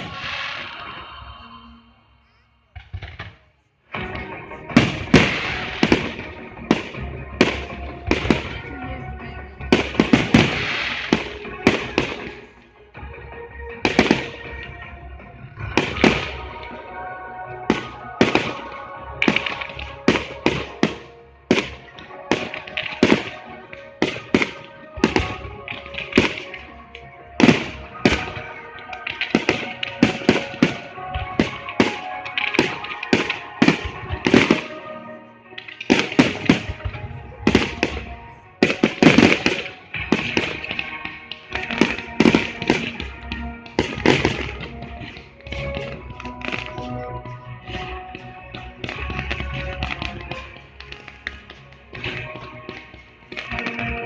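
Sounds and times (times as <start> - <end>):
fireworks bursting: 0.0 - 1.5, 2.8 - 8.8, 9.6 - 12.7, 13.8 - 14.8, 15.6 - 54.0
music playing: 0.0 - 54.0.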